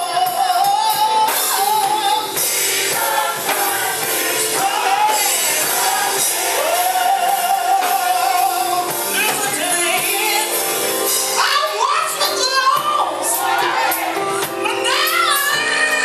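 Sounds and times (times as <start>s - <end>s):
gospel choir singing: 0.0s - 16.0s
lead singer: 0.0s - 16.0s.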